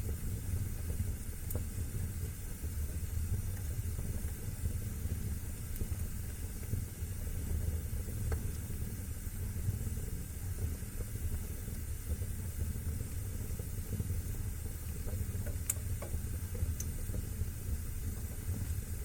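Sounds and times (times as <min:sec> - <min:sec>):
fire crackling and popping: 0:00.0 - 0:19.0
wood fire burning: 0:00.0 - 0:19.0.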